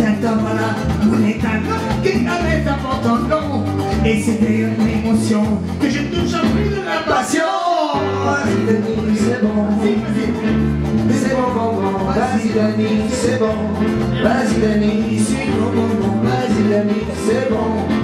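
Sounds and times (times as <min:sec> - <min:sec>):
keyboard latin dance music: 0:00.0 - 0:18.0
man singing into a microphone: 0:00.0 - 0:18.0.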